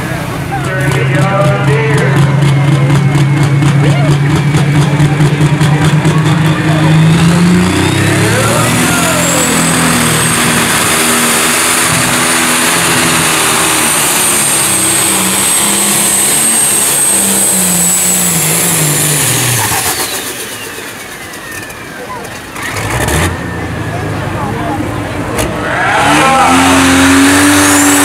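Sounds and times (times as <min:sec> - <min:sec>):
diesel tractor engine under load: 0:00.0 - 0:28.0
turbo whine: 0:00.7 - 0:24.2.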